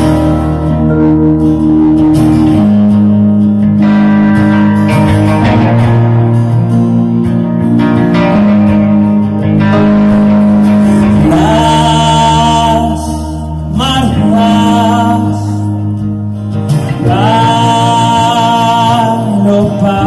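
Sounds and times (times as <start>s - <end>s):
held wavering melody line: 0.0s - 19.3s
live rock band playing: 0.0s - 20.0s.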